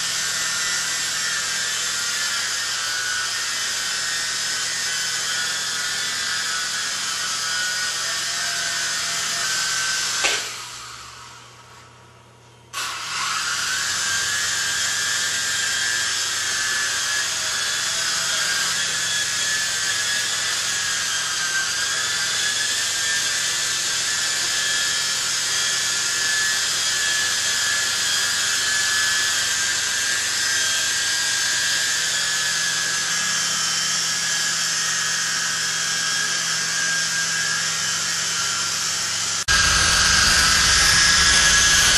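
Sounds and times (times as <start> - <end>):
rc helicopter motors whining: 0.0 - 11.6, 12.8 - 41.9.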